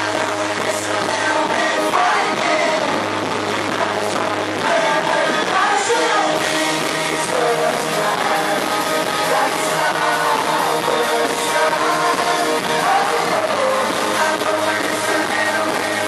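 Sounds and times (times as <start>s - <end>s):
live pop band playing: 0.0s - 16.0s
people singing: 0.0s - 16.0s.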